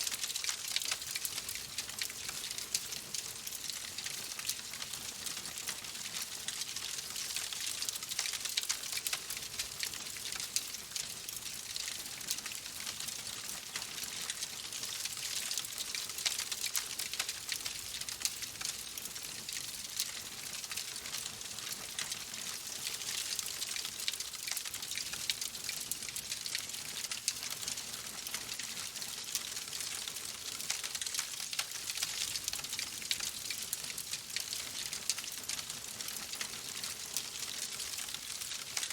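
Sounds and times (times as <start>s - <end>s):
fire crackling in a fireplace: 0.0s - 38.9s.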